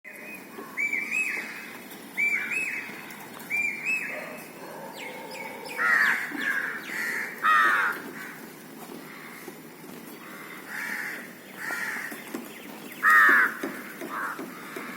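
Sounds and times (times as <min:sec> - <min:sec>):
harsh bird calls: 0:00.1 - 0:14.9.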